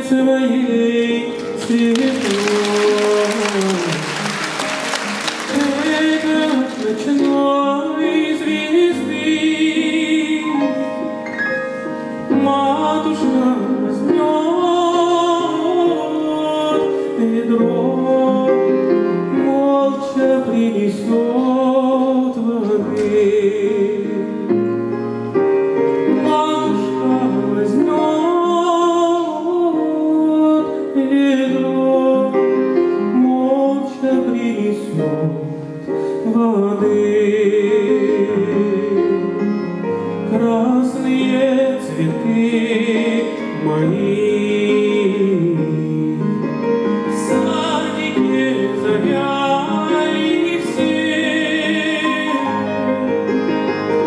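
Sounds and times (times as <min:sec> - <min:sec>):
man singing with vibrato: 0:00.0 - 0:11.2, 0:11.9 - 0:24.7, 0:25.9 - 0:53.6
grand piano: 0:00.0 - 0:54.0.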